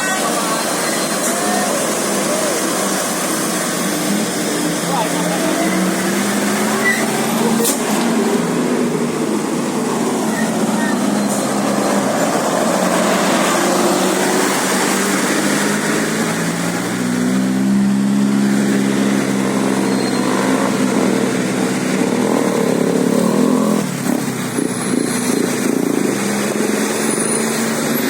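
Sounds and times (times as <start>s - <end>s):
bus engine passing: 0.0s - 28.0s
road traffic noise: 0.0s - 28.0s.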